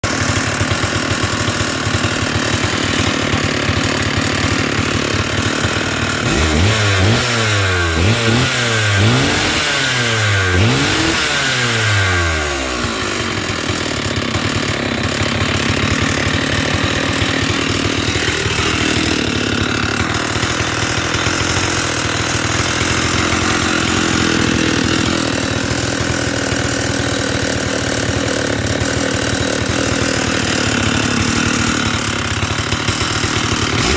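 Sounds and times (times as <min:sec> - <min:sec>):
chainsaw idling and revving: 0:00.0 - 0:33.9
engine piston knocking: 0:00.0 - 0:33.9.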